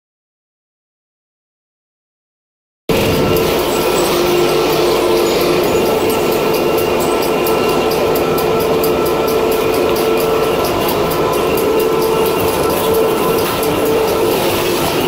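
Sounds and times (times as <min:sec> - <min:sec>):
fast even ticking: 0:02.9 - 0:15.0
motor whine: 0:02.9 - 0:15.0.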